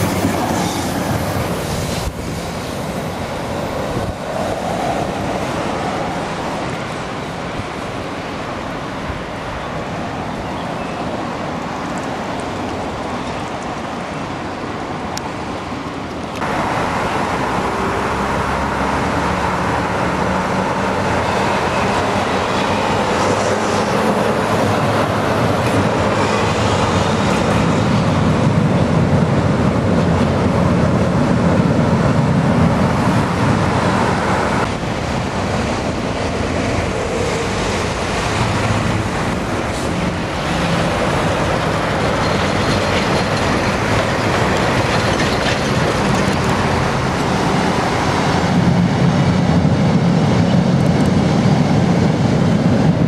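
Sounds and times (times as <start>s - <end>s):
road traffic noise: 0.0s - 53.0s
tram running on street track: 0.0s - 53.0s.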